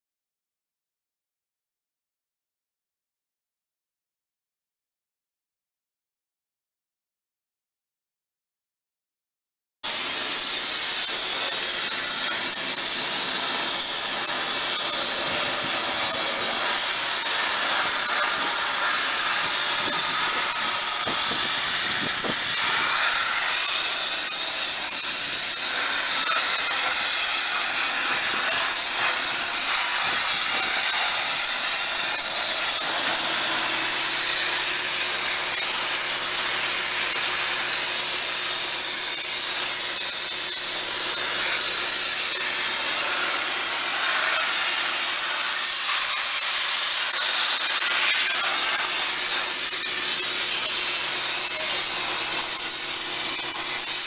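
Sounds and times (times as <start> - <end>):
blast nozzle hissing: 9.9 - 54.0.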